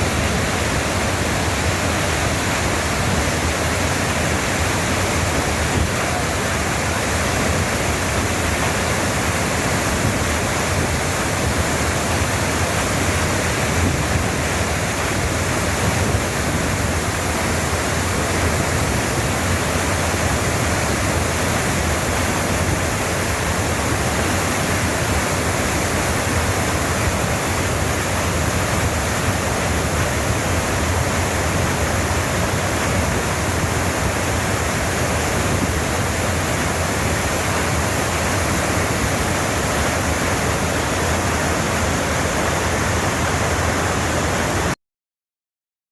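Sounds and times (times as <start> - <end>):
waterfall rushing: 0.0 - 44.8.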